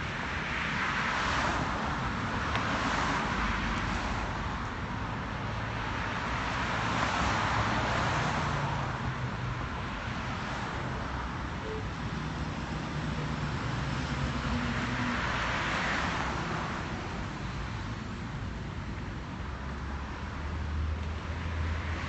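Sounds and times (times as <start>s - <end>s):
cars driving past: 0.0s - 18.2s, 18.9s - 22.0s.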